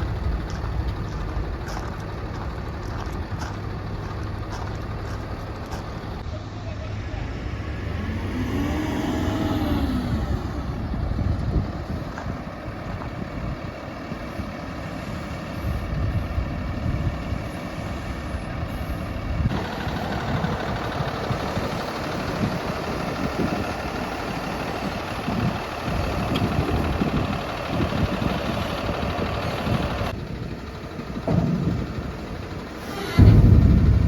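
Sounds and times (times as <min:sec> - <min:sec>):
dump truck engine running: 0:00.0 - 0:34.0.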